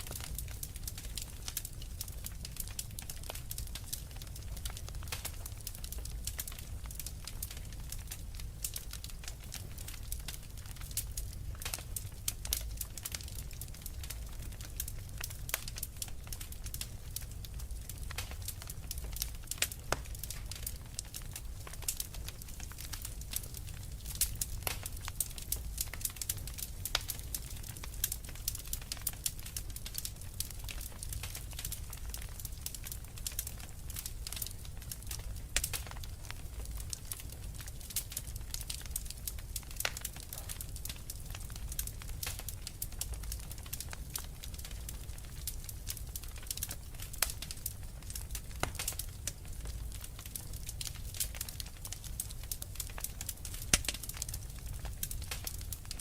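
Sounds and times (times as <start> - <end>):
low rumble of fire: 0.0 - 56.0
wood fire crackling: 0.0 - 56.0.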